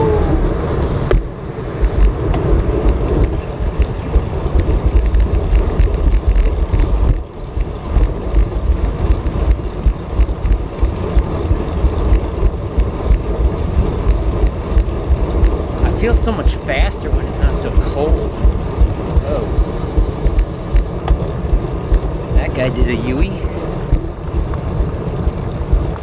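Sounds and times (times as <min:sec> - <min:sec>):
bicycle road noise: 0:00.0 - 0:26.0
wind buffeting microphone: 0:00.0 - 0:26.0.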